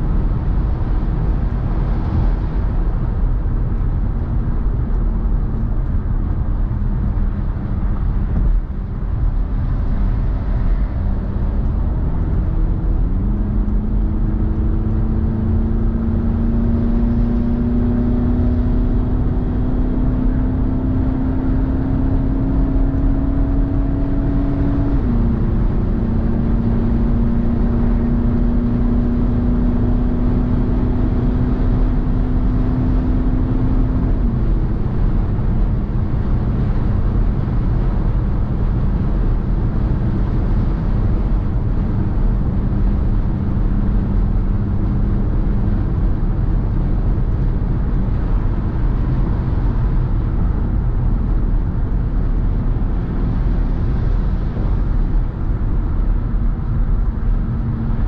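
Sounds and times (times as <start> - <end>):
car engine hum: 0.0 - 58.0
road and tyre rumble: 0.0 - 58.0.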